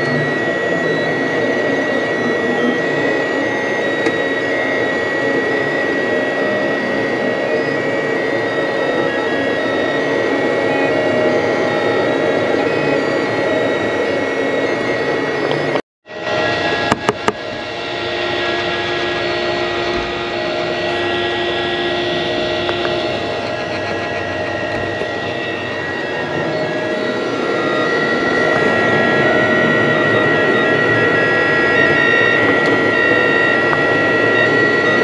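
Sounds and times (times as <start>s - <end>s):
three d printer whirring: 0.0s - 15.8s, 16.6s - 35.0s
printer fan and motor hum: 0.0s - 35.0s.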